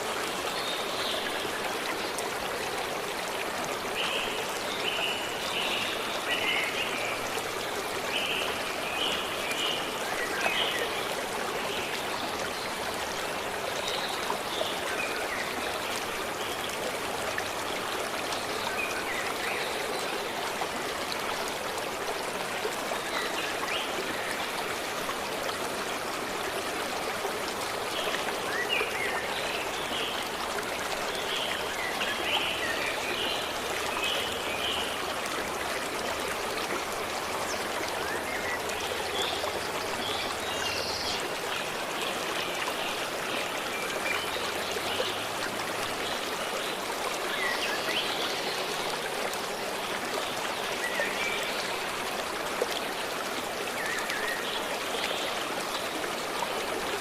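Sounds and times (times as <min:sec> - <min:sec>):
forest stream running: 0:00.0 - 0:57.0.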